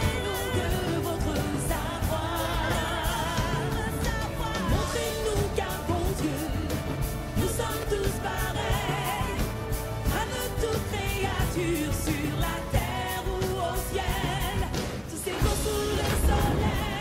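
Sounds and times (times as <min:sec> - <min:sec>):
choir singing with orchestra: 0:00.0 - 0:17.0.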